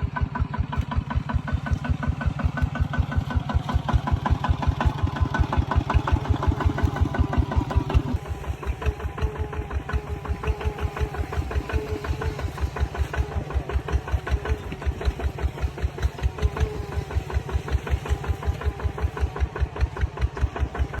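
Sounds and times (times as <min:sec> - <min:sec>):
diesel engine running steadily: 0:00.0 - 0:21.0.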